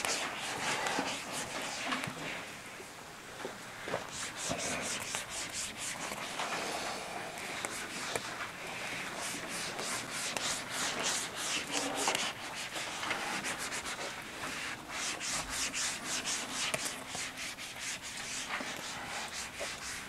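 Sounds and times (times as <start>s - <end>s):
eraser wiping whiteboard: 0.0s - 2.5s, 3.8s - 20.0s.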